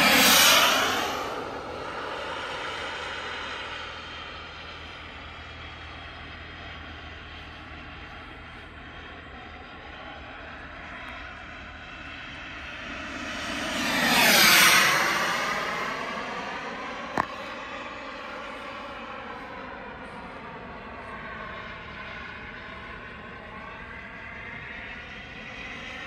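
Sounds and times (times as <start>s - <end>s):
model jet engine flying past: 0.0s - 26.0s.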